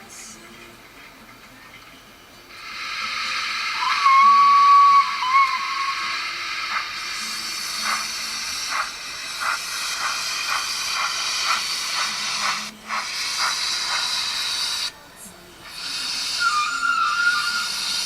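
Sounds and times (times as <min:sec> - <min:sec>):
steam hiss: 0:02.5 - 0:15.0, 0:15.6 - 0:18.0
steam locomotive exhaust chuffs: 0:02.6 - 0:14.9, 0:15.6 - 0:18.0.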